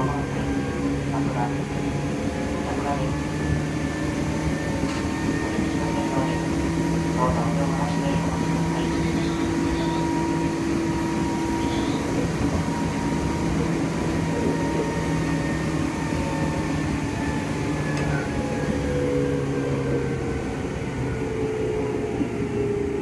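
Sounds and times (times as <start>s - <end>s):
electric train equipment humming: 0.0s - 23.0s.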